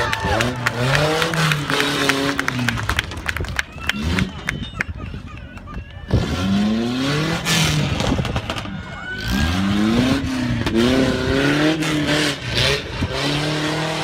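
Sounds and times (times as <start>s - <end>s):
truck engine revving: 0.0s - 5.0s, 6.0s - 14.0s.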